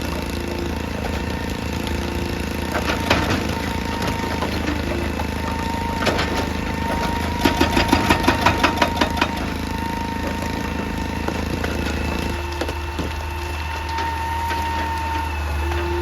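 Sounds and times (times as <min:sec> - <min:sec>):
excavator diesel engine running: 0:00.0 - 0:16.0
thin whine: 0:00.0 - 0:16.0.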